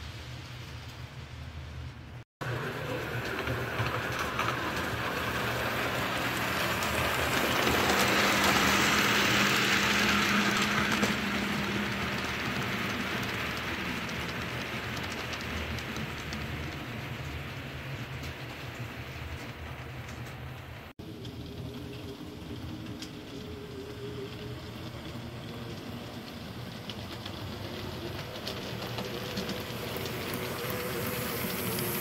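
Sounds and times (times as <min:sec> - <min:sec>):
model train wheels clicking on track: 0:02.4 - 0:32.0.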